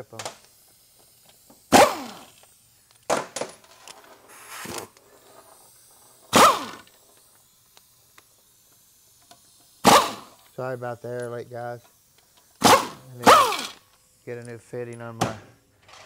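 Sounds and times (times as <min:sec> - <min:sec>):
pneumatic impact gun bursts: 0:00.0 - 0:15.0
faint air hiss: 0:00.0 - 0:15.9.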